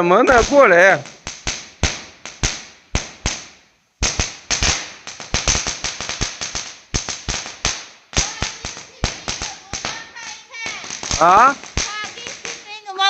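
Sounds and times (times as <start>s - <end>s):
firecrackers cracking: 0.0s - 13.0s.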